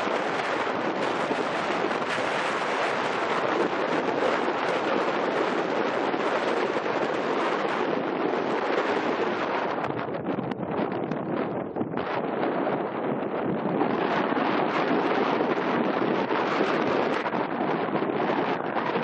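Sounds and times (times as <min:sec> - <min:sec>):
water by the shore: 0:00.0 - 0:19.0
wind: 0:00.0 - 0:19.0.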